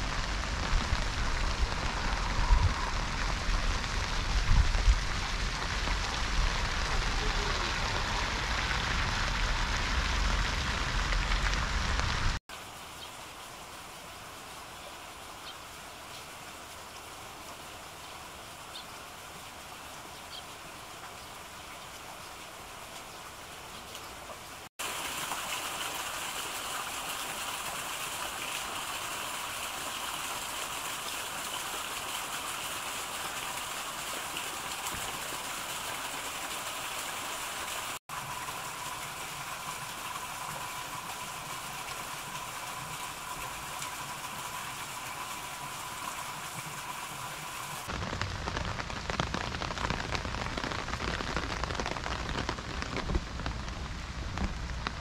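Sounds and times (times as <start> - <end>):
raindrops spattering: 0.0 - 13.6, 19.4 - 55.0
rain falling: 0.0 - 55.0.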